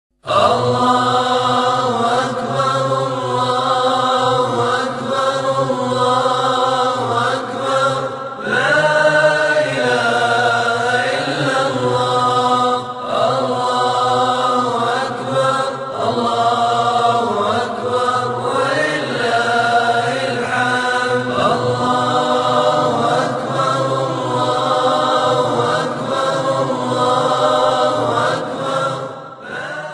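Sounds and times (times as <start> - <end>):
voices chanting together: 0.2 - 29.9.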